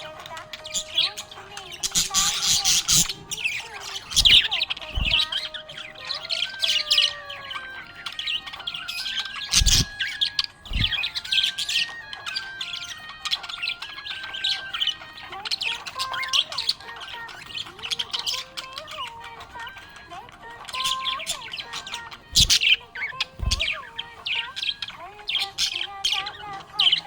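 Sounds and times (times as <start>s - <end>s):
budgerigars chirping: 0.0s - 27.0s.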